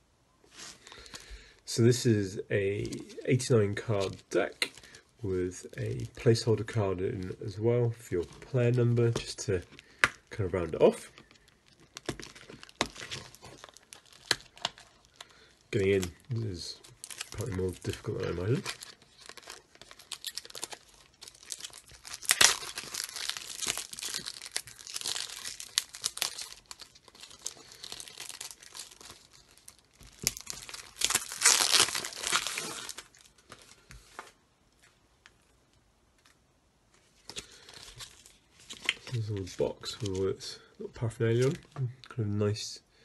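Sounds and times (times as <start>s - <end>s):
cellophane crackling and crinkling: 2.6s - 35.5s, 36.1s - 42.2s.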